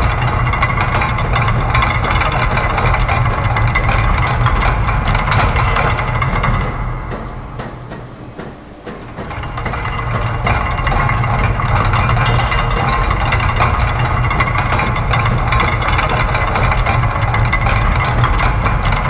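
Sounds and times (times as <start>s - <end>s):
low machine hum: 0.0s - 19.0s
mechanical clicking and clatter: 0.0s - 19.0s.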